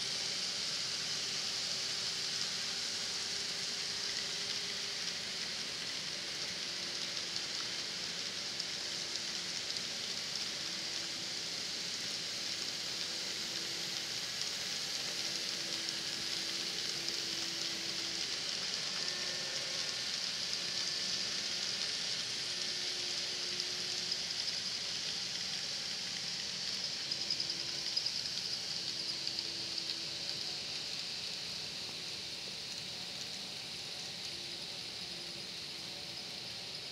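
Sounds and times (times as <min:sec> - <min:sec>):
model train wheels hissing: 0:00.0 - 0:36.9.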